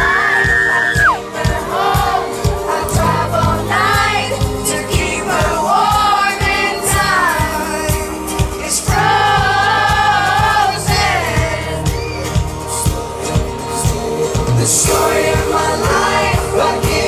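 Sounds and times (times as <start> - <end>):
band playing: 0.0 - 17.0
drum beat: 0.0 - 17.0
male vocal group singing: 0.0 - 17.0.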